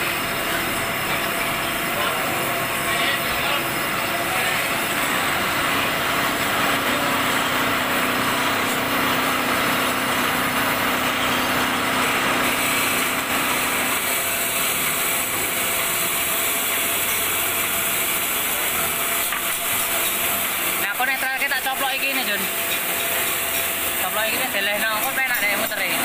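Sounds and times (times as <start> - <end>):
lathe humming: 0.0 - 26.0
tool cutting metal: 0.5 - 26.0.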